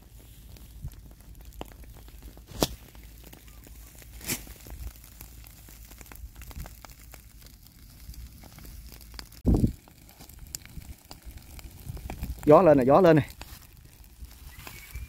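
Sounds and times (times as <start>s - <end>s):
sharp pops from fire: 0.0s - 15.0s
straw crackling as it burns: 0.0s - 15.0s.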